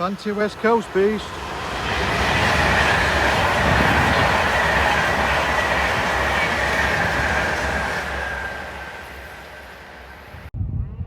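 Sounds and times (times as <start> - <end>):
train wheel and rail noise: 0.0 - 10.5.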